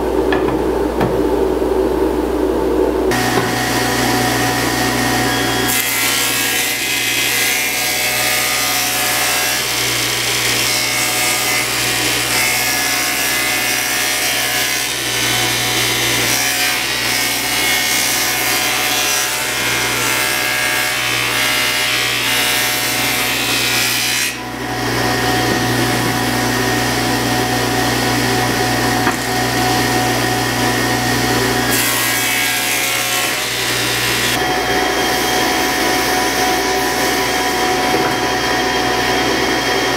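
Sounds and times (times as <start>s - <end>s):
table saw cutting wood: 3.1s - 39.9s.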